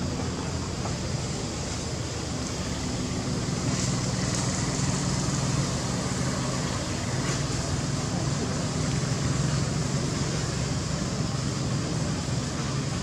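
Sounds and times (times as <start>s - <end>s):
background hiss: 0.0s - 13.0s
engine humming: 0.0s - 13.0s.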